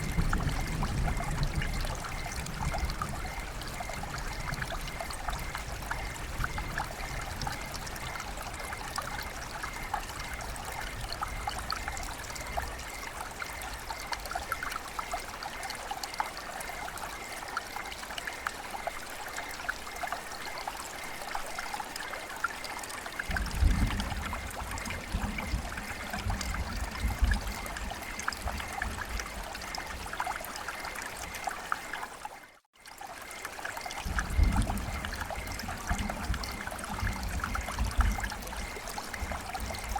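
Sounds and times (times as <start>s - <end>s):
small drips pattering: 0.0s - 39.9s
water trickling and splashing: 0.0s - 39.9s.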